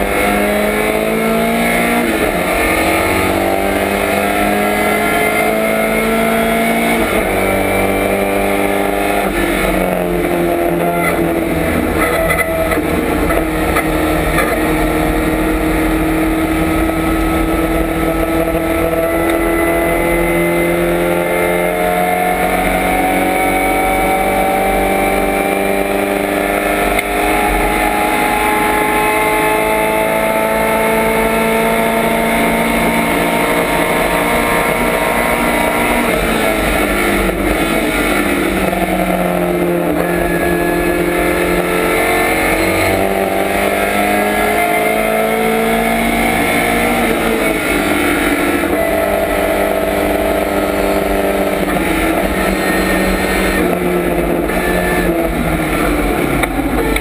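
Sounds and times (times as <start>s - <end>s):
racing car engine under load: 0.0s - 57.0s.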